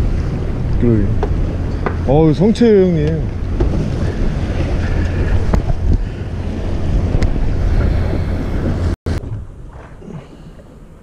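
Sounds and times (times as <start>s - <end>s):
boat engine rumbling: 0.0s - 11.0s
wind buffeting microphone: 0.0s - 11.0s.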